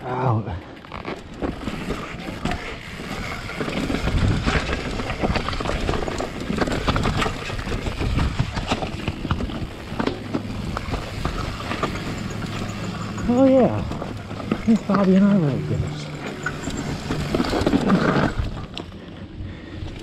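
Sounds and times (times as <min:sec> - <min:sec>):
tyres crunching over rocks: 0:00.7 - 0:19.2
bike frame clattering: 0:01.3 - 0:18.9.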